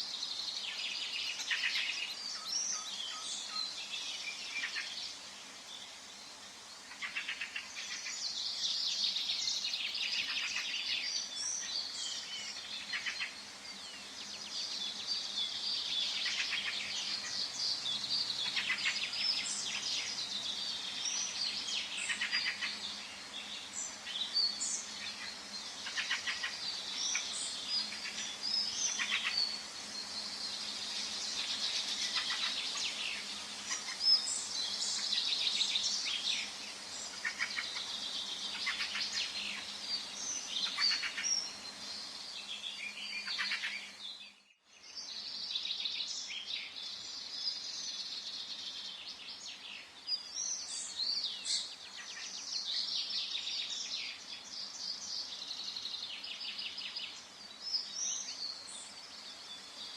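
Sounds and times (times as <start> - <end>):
birds chirping and trilling: 0.0 - 59.9
faint steady hiss: 0.0 - 59.9.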